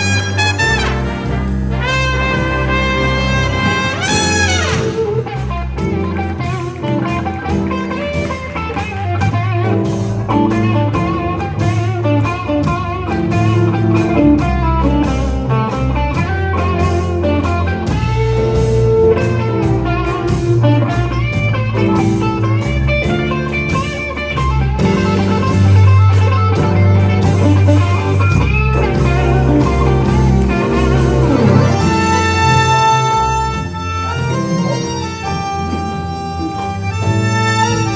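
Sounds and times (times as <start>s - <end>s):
electric guitar line: 0.0s - 37.9s
jazz orchestra playing: 0.0s - 37.9s.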